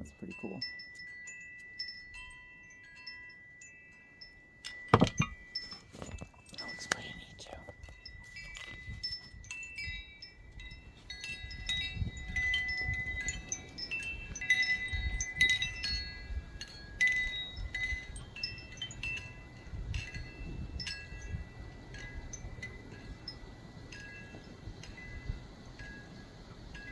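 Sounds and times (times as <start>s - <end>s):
wind chimes ringing: 0.0s - 26.9s.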